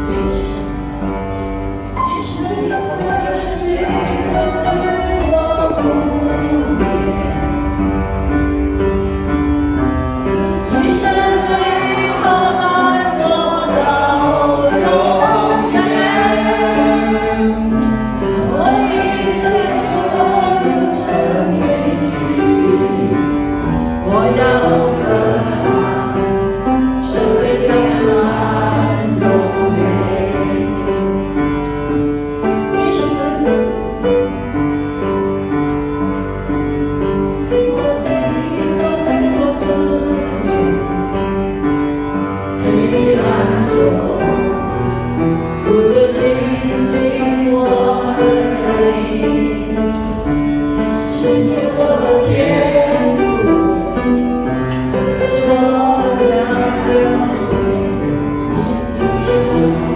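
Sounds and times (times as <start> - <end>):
instrumental accompaniment: 0.0 - 59.9
voices singing together: 1.9 - 31.8, 37.4 - 41.7, 42.4 - 59.9.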